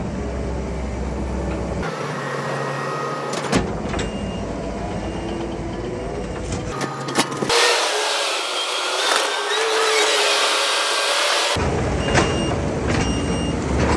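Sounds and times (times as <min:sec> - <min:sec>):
skid steer engine running: 0:00.0 - 0:13.9.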